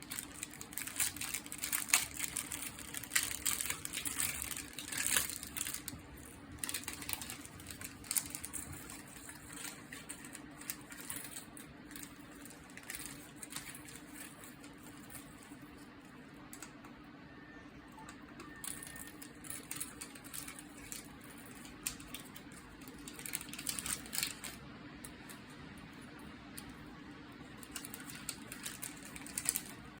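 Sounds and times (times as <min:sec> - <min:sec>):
plastic packaging rustling: 0:00.0 - 0:16.8, 0:18.0 - 0:25.7, 0:26.5 - 0:30.0
steady low hum: 0:00.0 - 0:30.0.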